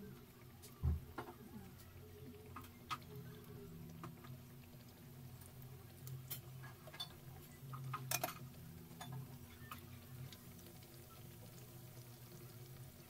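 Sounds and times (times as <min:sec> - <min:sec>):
oil crackling and popping: 0:00.1 - 0:13.0.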